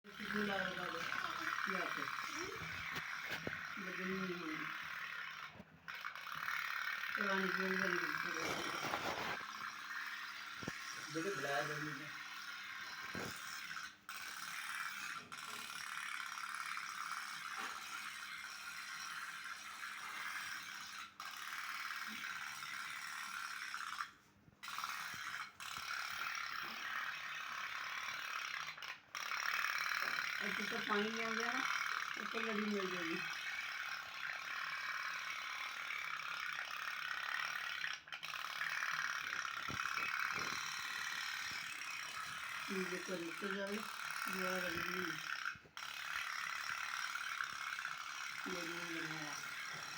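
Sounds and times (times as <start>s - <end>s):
toy steam boat rattling ticks: 0.1s - 49.9s.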